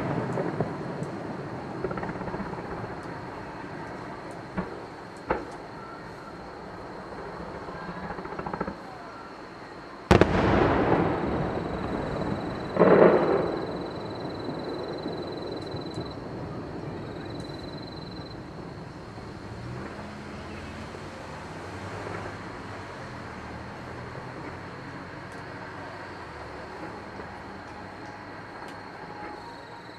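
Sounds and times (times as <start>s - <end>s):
distant fireworks bursting: 0.0s - 20.5s, 21.2s - 29.9s.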